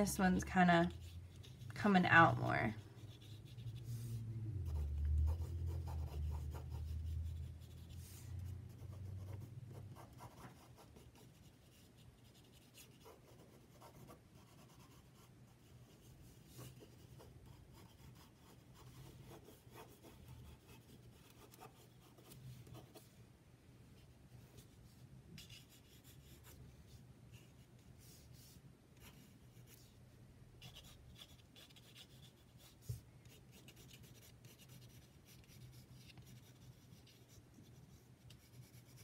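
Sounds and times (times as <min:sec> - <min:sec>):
pencil scratching on paper: 0:00.0 - 0:23.1, 0:25.4 - 0:29.9, 0:30.6 - 0:39.0.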